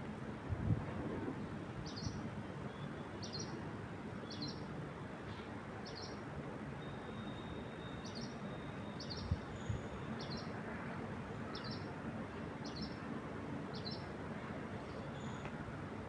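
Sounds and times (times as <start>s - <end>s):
wind through trees: 0.0s - 16.0s.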